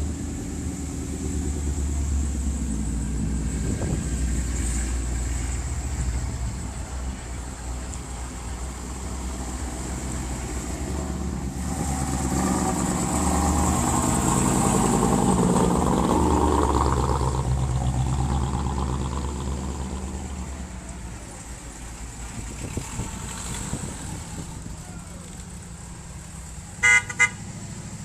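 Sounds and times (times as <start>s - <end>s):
car engine passing by: 0.0s - 28.0s.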